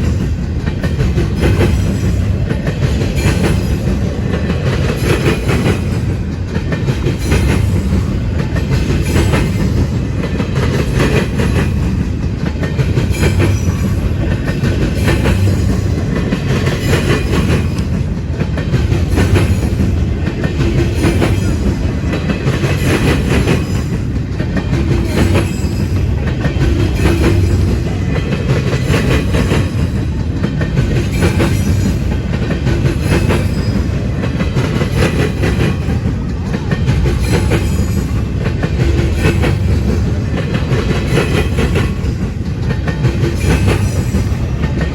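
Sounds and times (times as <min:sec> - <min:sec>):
freight train rumbling past: 0:00.0 - 0:44.9
wheels clicking over rail joints: 0:00.0 - 0:44.9.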